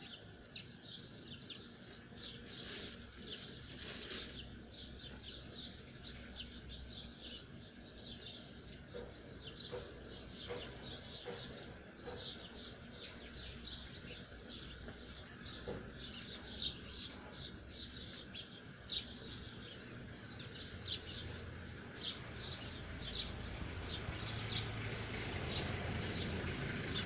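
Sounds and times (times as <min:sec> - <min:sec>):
low outdoor background hum: 0:00.0 - 0:27.0
small birds chirping: 0:00.0 - 0:27.0.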